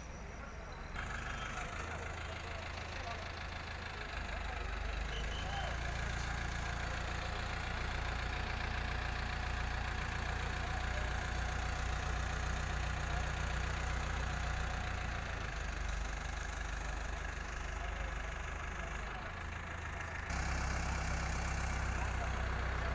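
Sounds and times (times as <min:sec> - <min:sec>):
crane diesel engine running: 0:00.0 - 0:22.9.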